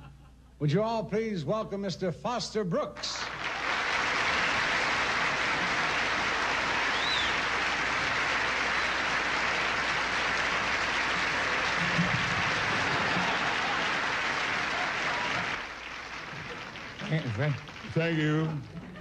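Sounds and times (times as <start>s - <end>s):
audience applauding: 3.0s - 19.0s.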